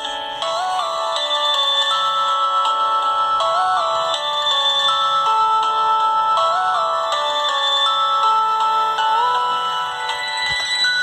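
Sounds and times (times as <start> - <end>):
electronic ringtone melody: 0.0 - 11.0.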